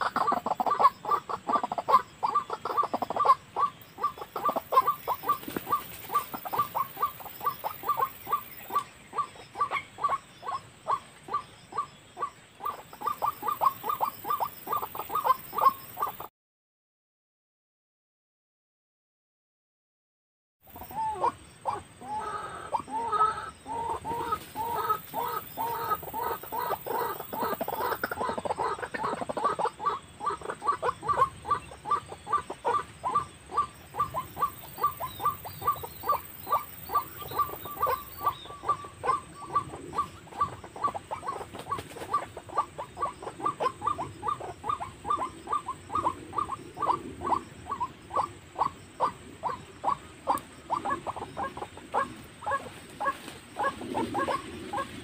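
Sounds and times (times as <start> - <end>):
waterhen calls: 0.0 - 16.3, 20.7 - 55.0.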